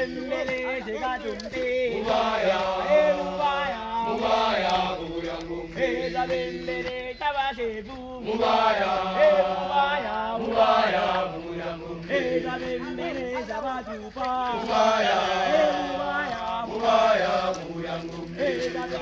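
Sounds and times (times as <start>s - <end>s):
group of voices chanting: 0.0s - 19.0s.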